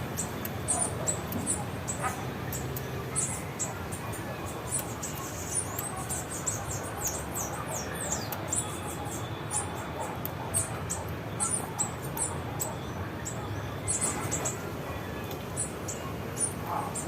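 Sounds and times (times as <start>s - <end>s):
songbirds chirping: 0.0s - 17.0s
steady background noise: 0.0s - 17.0s.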